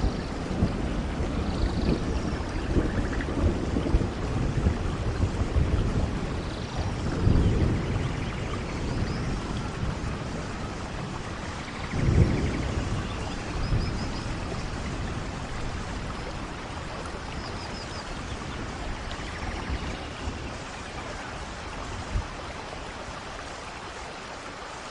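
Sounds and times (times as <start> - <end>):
thunder rumbling: 0.0 - 23.5
rain falling in forest: 0.0 - 24.9.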